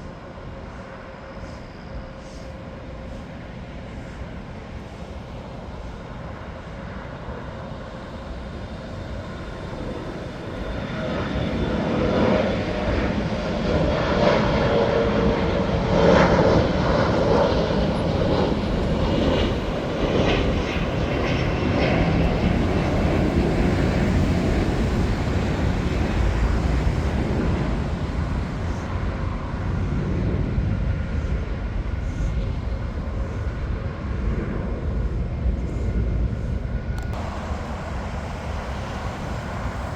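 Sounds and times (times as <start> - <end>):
jet airliner engines rumbling: 0.0 - 39.9.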